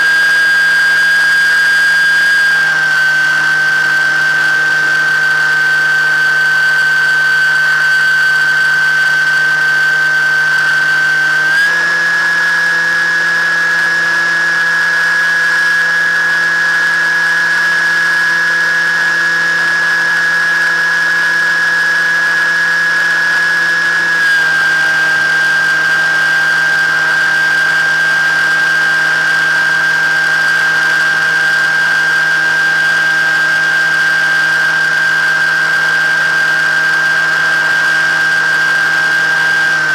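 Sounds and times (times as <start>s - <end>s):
model aircraft motor whining: 0.0s - 39.9s.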